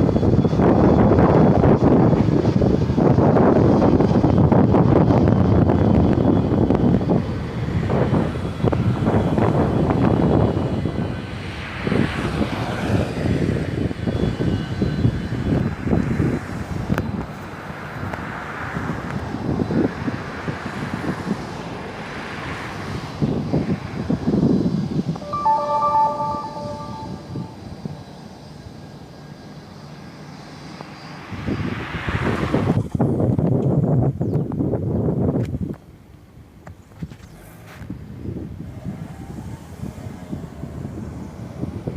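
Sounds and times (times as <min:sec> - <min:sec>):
jet engines crackling rumble: 0:00.0 - 0:25.2, 0:27.6 - 0:41.9.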